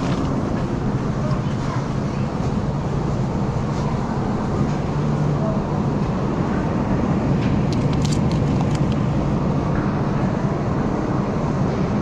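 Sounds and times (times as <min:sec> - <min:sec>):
refrigerated cases humming: 0:00.0 - 0:12.0.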